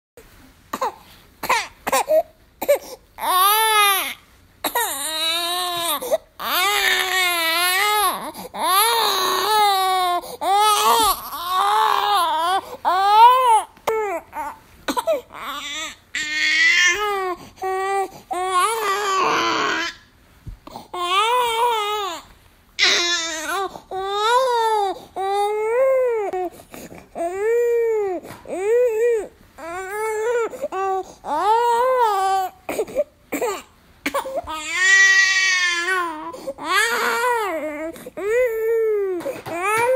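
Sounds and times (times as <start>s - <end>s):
baby crying: 0.8s - 20.0s, 21.0s - 26.5s, 27.2s - 39.9s.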